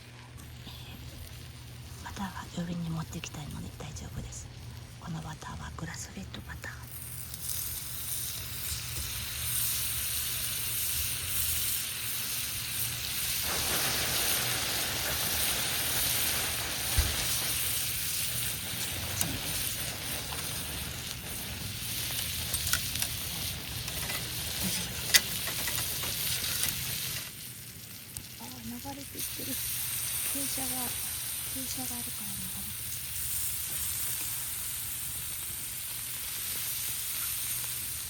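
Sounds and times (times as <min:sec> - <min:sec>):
butter sizzling on a griddle: 0:06.9 - 0:38.0.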